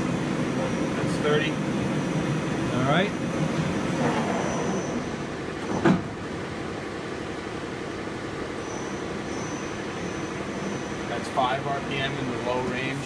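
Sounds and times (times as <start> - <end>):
machine mechanical hum: 0.0 - 13.0.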